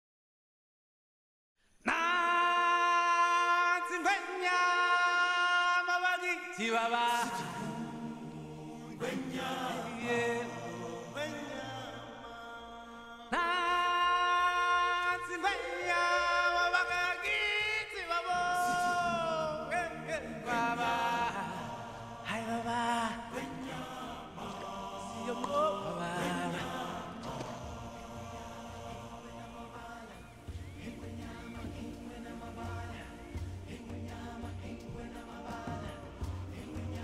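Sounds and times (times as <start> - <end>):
song with chant-like vocals: 1.8 - 37.0.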